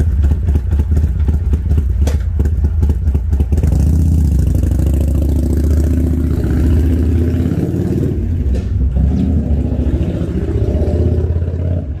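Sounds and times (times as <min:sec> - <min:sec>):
motorcycle pulling away: 0:00.0 - 0:12.0.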